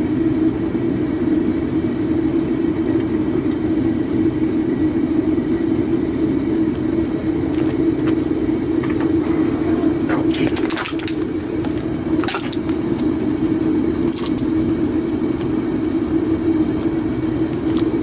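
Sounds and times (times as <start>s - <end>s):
furnace burner rushing rumble: 0.0s - 18.0s.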